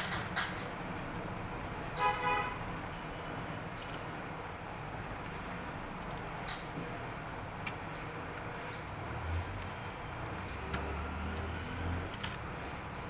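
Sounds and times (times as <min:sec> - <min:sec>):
road traffic noise: 0:00.0 - 0:13.0
vehicle engine hum: 0:00.0 - 0:13.0.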